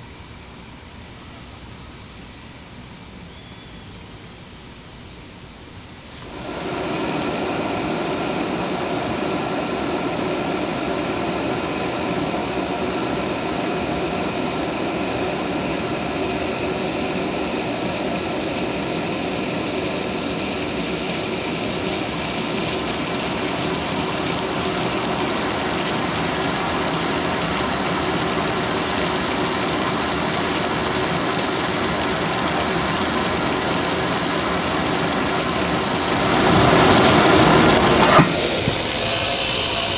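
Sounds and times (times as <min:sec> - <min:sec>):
stove flame hiss: 0:00.0 - 0:39.9
water boiling in kettle: 0:06.0 - 0:39.9.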